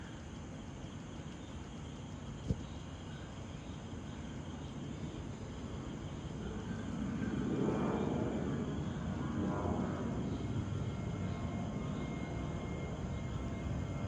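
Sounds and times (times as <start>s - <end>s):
distant jet engine rumble: 0.0s - 14.0s
insects chirping: 0.0s - 14.0s.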